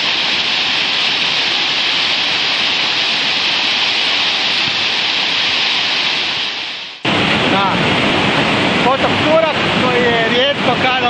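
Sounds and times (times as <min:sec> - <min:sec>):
creek water rushing through rapids: 0:00.0 - 0:11.0.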